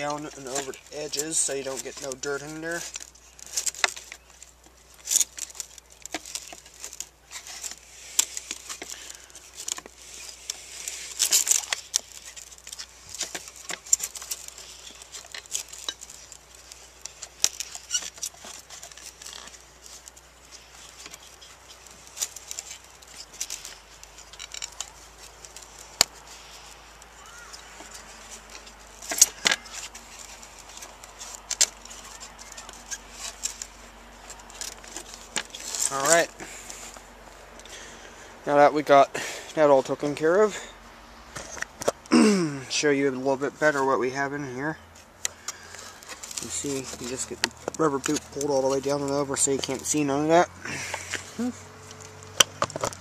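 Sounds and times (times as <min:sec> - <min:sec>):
plastic scraping and rubbing: 0:00.0 - 0:37.8, 0:43.2 - 0:53.0.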